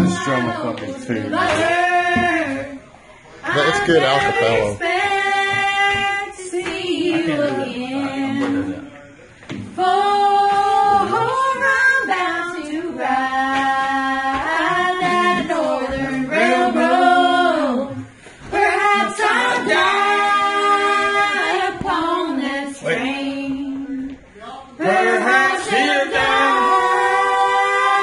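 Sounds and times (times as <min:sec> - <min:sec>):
a cappella singing: 0:00.0 - 0:28.0.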